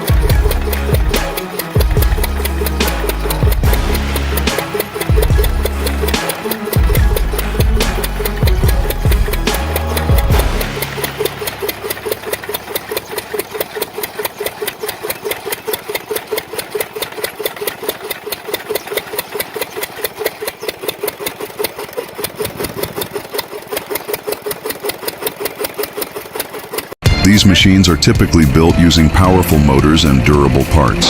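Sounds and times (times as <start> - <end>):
drag saw engine chugging: 0.0 - 31.0.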